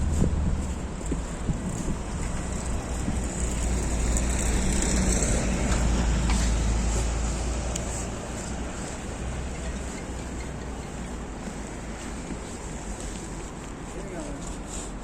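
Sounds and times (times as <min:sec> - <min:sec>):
vehicle passing: 0:00.0 - 0:13.5.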